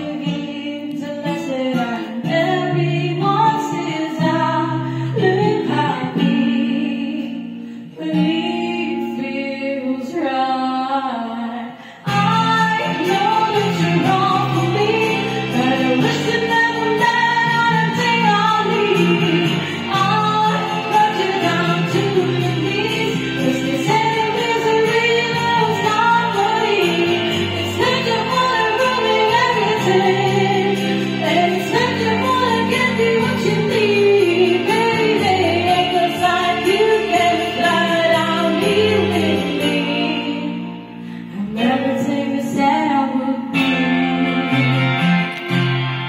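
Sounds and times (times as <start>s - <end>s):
karaoke backing track: 0.0s - 46.0s
woman singing pop song: 0.0s - 46.0s.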